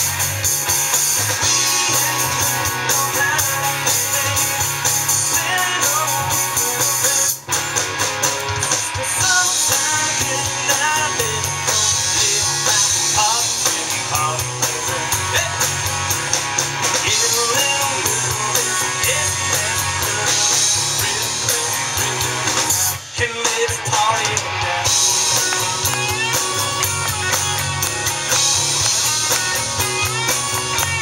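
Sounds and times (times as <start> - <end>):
rock band playing: 0.0 - 31.0.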